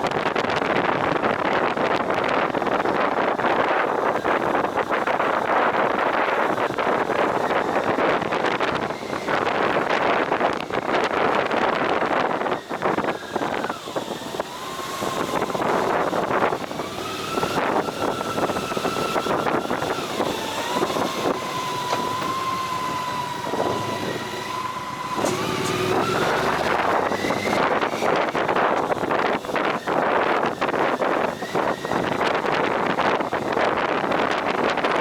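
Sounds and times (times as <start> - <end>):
motorcycle engine whining: 0.0 - 35.0
wind rushing over microphone: 0.0 - 35.0.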